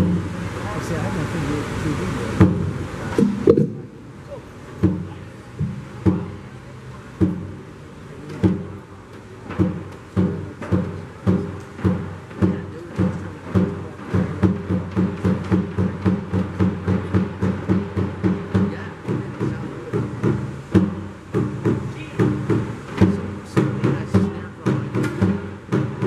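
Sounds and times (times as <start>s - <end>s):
djembe drums striking together: 0.0s - 4.0s, 4.7s - 26.0s.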